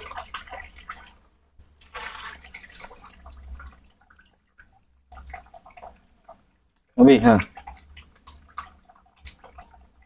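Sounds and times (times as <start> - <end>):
water splashing and dripping: 0.0 - 10.0.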